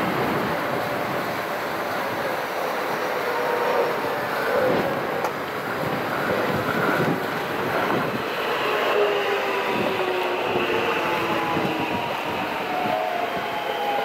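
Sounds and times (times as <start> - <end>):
electric train motor whine: 0.0 - 14.0
wheel-on-rail rumble: 0.0 - 14.0.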